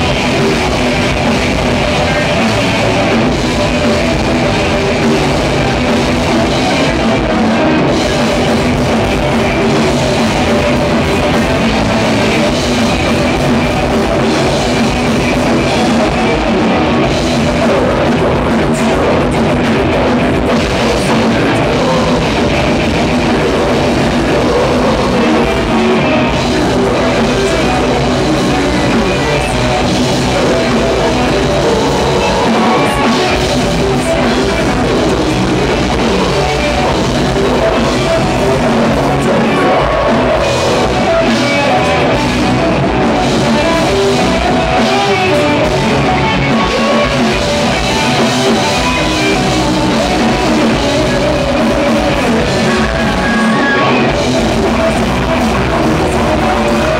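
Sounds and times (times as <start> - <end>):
distorted guitars and bass: 0.0 - 56.9
fast dense drums: 0.0 - 56.9.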